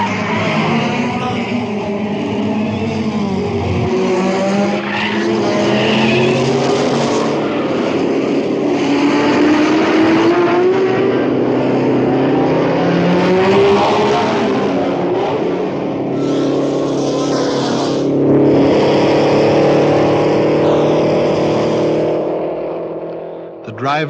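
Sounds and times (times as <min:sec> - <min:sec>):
racing car engines at speed: 0:00.0 - 0:24.0.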